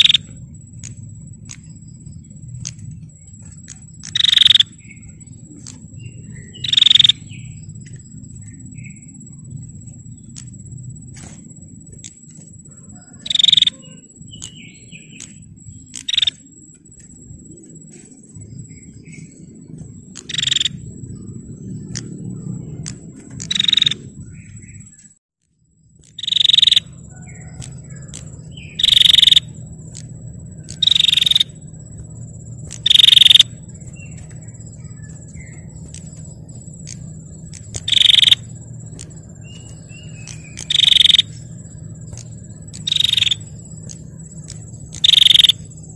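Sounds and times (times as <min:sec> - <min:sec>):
bird trilled calls: 0:00.0 - 0:10.5, 0:11.2 - 0:16.8, 0:18.0 - 0:21.2, 0:21.8 - 0:25.0, 0:26.0 - 0:45.9
thin high whine: 0:00.0 - 0:25.2, 0:25.9 - 0:45.9
steady low hum: 0:00.0 - 0:45.9.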